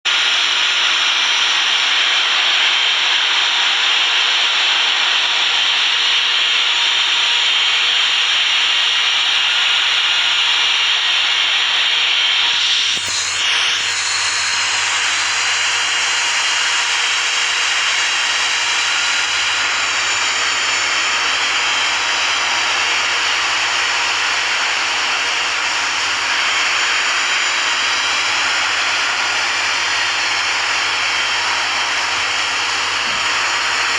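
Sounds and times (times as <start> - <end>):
jet turbine running: 0.1 - 33.9.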